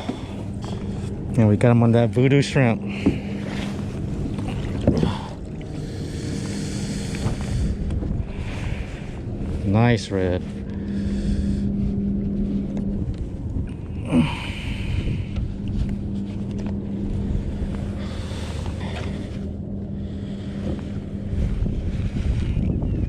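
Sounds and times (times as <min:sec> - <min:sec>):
faint steady hum: 0:00.0 - 0:23.0
wind buffeting microphone: 0:00.0 - 0:23.0.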